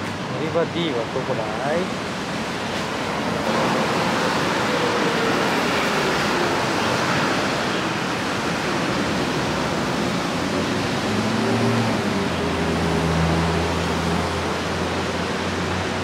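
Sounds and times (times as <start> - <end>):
traffic roar: 0.0 - 16.0.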